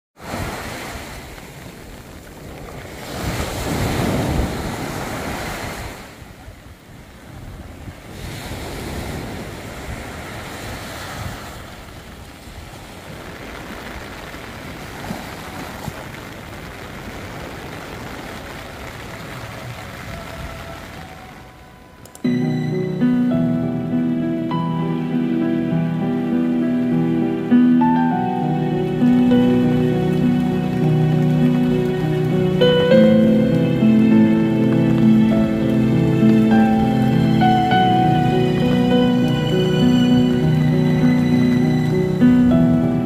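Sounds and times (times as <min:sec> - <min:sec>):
waves washing up a beach: 0:00.2 - 0:43.0.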